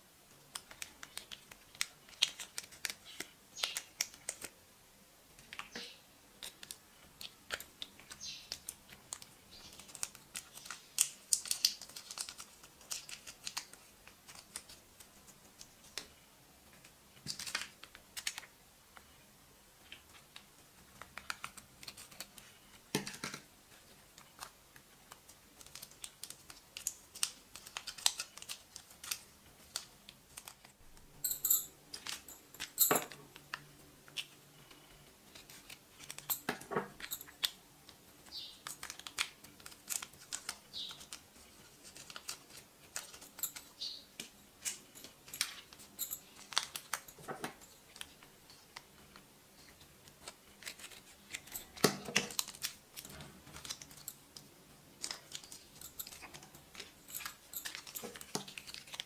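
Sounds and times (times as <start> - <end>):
plastic sachets crinkling: 0.5 - 4.5, 5.4 - 16.1, 16.8 - 18.5, 19.9 - 30.8, 31.5 - 59.0.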